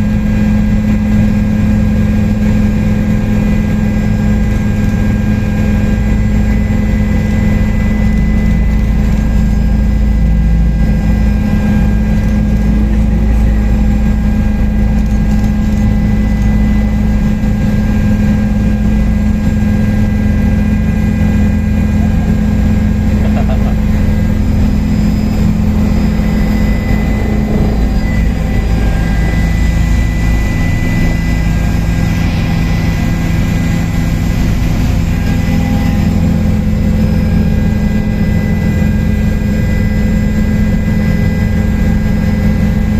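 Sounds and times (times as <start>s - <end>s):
helicopter engine and rotor: 0.0s - 42.9s.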